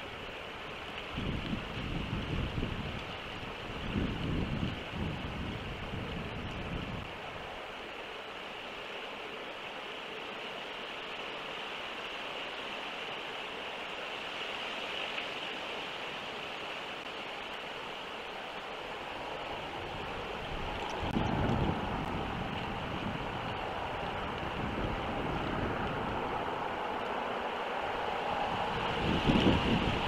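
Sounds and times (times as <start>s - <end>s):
low rumble of wind gust: 0.0s - 14.9s, 15.6s - 30.0s
rushing wind: 0.0s - 30.0s.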